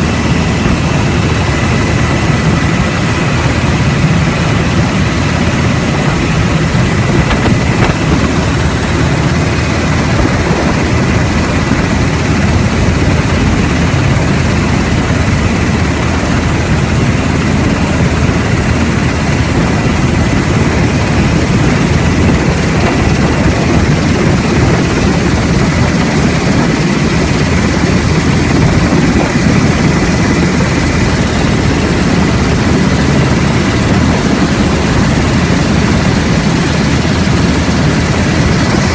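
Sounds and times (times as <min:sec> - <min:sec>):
helicopter rotor and engines: 0:00.0 - 0:38.9.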